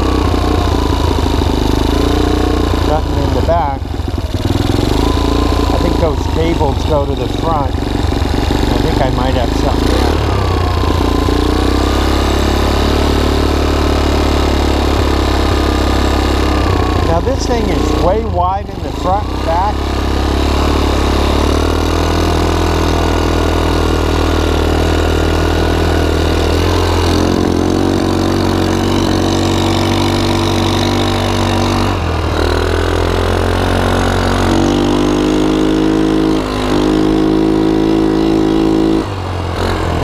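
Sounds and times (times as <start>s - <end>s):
quad engine revving: 0.0s - 40.0s.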